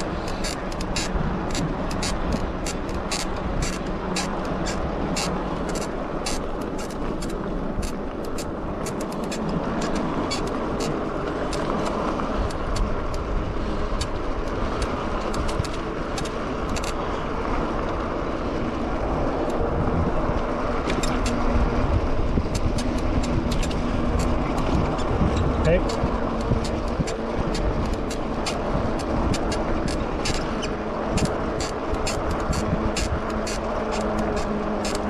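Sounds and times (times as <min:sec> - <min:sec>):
sharp clicks from bike: 0:00.0 - 0:13.3, 0:13.9 - 0:17.0, 0:22.5 - 0:35.0
wind and tire noise: 0:00.0 - 0:35.0.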